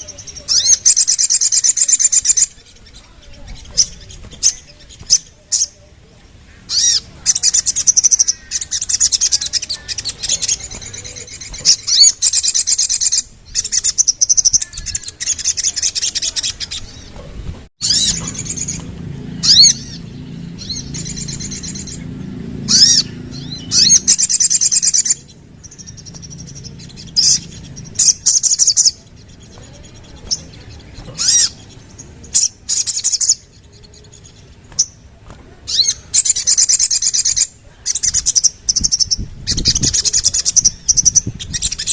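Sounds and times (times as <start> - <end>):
songbird trilling: 0.0 - 17.2, 17.8 - 41.9.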